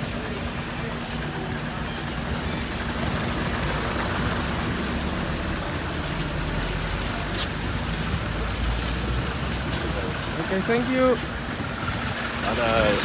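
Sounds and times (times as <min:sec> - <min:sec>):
steady rain: 0:00.0 - 0:13.0
vehicle engine rumbling: 0:00.0 - 0:13.0.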